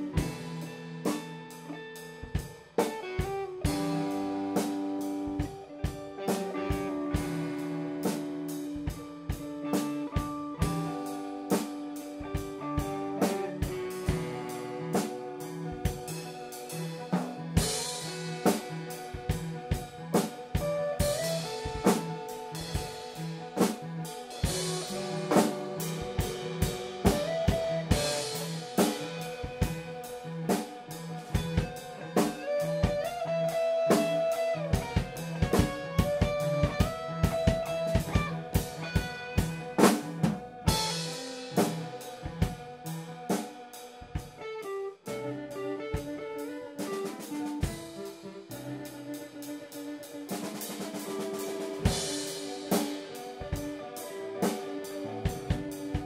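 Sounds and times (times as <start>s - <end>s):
drum kit playing: 0.0s - 56.0s
guitar notes: 0.0s - 56.0s
keyboard notes: 0.0s - 56.0s.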